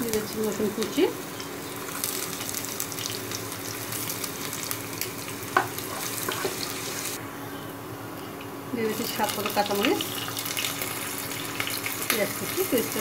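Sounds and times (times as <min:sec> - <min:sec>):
garlic sizzling in hot oil: 0:00.0 - 0:07.2, 0:08.8 - 0:13.0
faint steady hum: 0:00.0 - 0:13.0.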